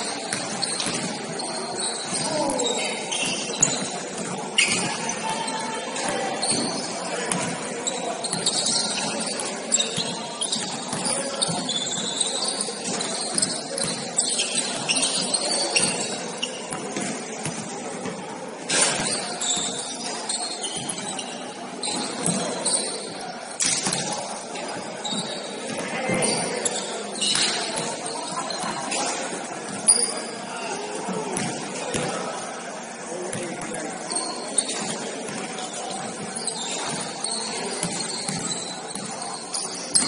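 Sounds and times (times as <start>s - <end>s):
murmur of voices: 0.0s - 40.0s
sneaker squeaks on court: 0.0s - 40.0s.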